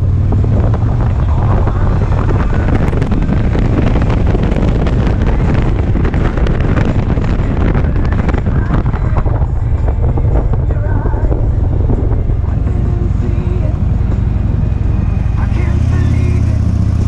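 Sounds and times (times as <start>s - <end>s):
wind buffeting microphone: 0.0s - 16.6s
motorcycle engine rumbling: 0.0s - 17.0s.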